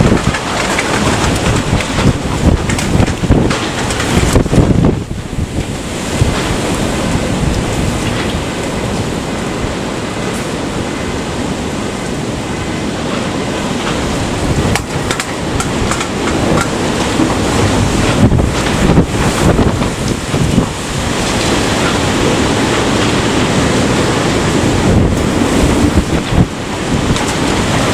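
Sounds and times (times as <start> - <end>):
strong wind on microphone: 0.0 - 27.9.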